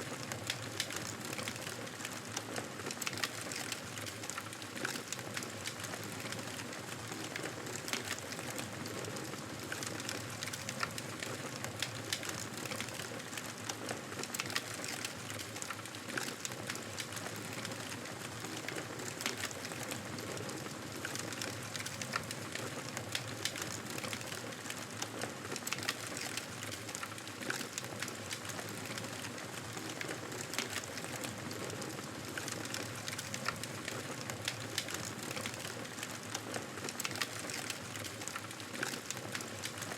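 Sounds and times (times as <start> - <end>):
campfire crackling and popping: 0.4 - 9.0, 9.6 - 39.9.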